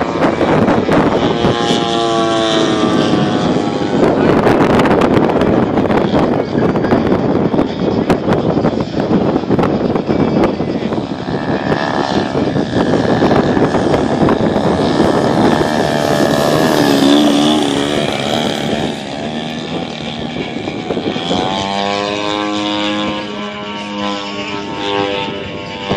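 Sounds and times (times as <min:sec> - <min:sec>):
model plane engine and propeller: 0:00.0 - 0:25.9.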